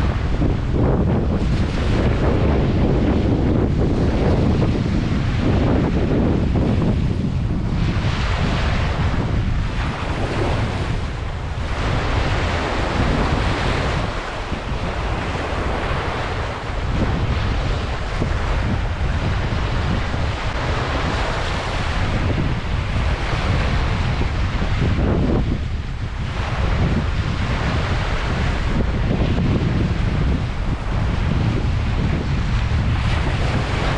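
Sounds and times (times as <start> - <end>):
ocean waves breaking: 0.0 - 33.9
wind buffeting microphone: 0.0 - 33.9.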